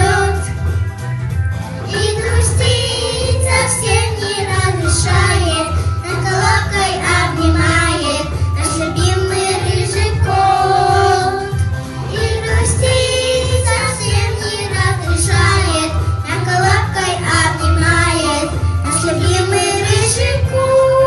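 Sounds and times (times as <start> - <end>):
girls singing pop song: 0.0 - 0.9, 1.8 - 21.0.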